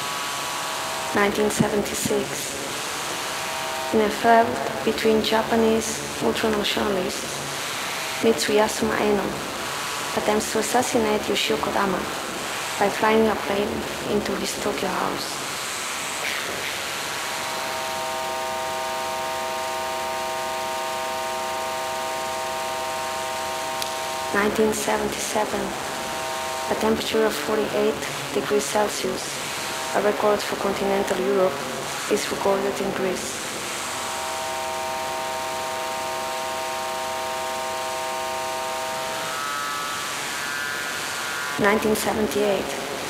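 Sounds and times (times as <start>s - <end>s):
held electronic drone tones: 0.0s - 43.0s
static-like hiss: 0.0s - 43.0s.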